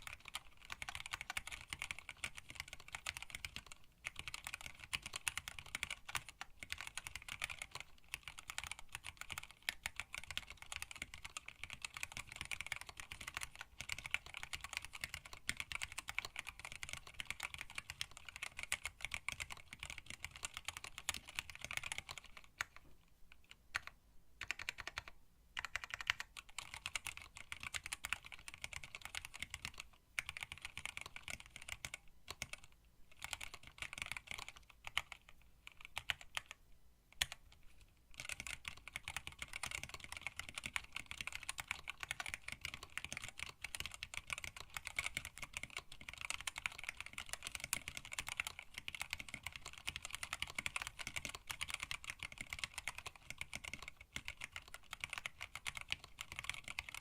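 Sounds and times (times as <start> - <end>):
mechanical keyboard typing: 0.0 - 36.6, 37.2 - 57.0.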